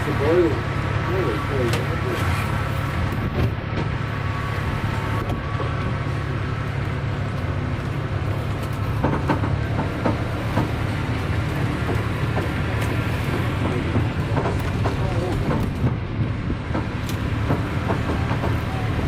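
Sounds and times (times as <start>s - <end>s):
carriages rattling and knocking: 0.0s - 19.0s
low engine drone: 0.0s - 19.0s.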